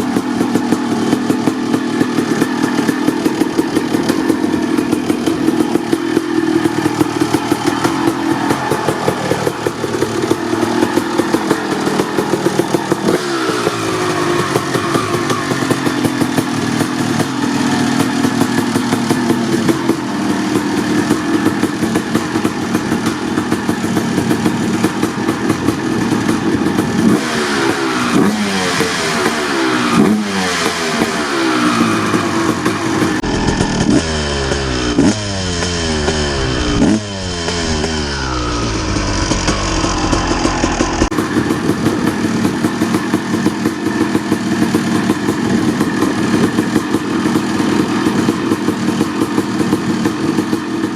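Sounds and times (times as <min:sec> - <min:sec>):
two-stroke engine idling and revving: 0:00.0 - 0:50.9.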